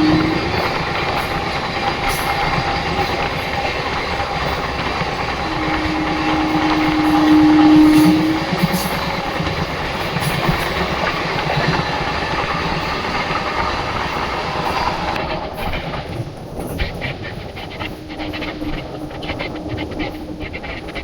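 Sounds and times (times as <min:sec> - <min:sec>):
long steady tone: 0:00.0 - 0:21.0
train rumbling on rails: 0:00.0 - 0:21.0.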